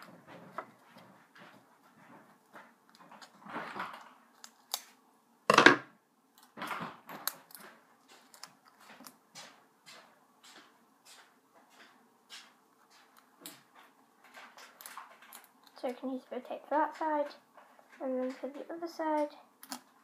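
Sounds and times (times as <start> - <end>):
clicks and rustles of handling: 0.0 - 5.0, 6.4 - 20.0.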